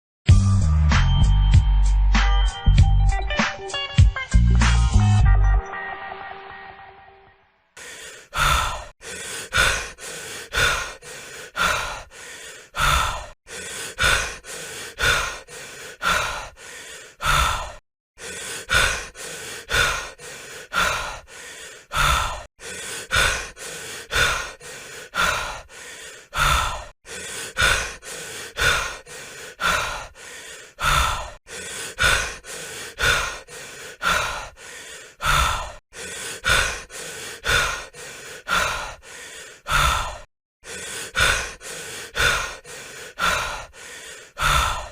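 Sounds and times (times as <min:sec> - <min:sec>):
person panting heavily: 0:07.8 - 0:44.9.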